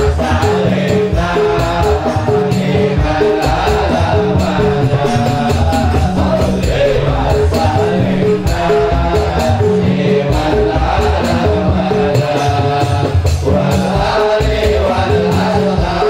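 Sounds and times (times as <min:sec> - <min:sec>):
instrumental music with bass line: 0:00.0 - 0:16.0.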